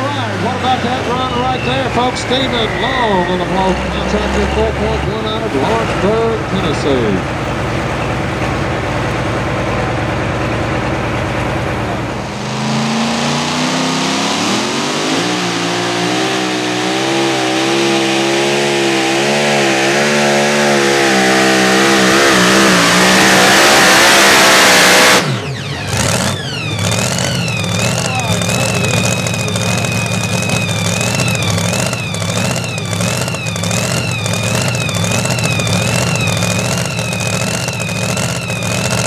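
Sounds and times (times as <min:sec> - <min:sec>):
supercharged truck engine revving: 0:00.0 - 0:39.0
tractor engine low rumble: 0:00.0 - 0:39.0.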